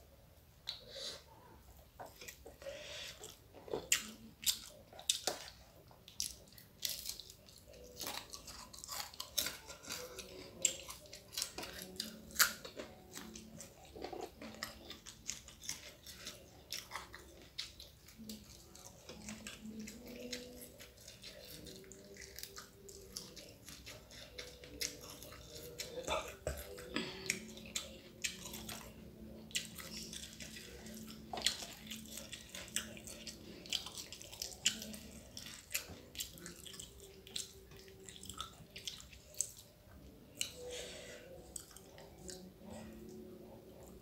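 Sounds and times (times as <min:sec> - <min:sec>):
person chewing crunchy food: 0:00.6 - 0:44.0.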